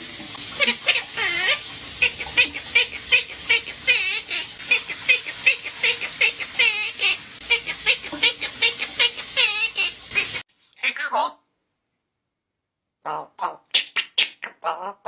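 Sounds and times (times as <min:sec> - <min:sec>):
parrot chirping: 0:00.6 - 0:11.5, 0:13.0 - 0:15.0.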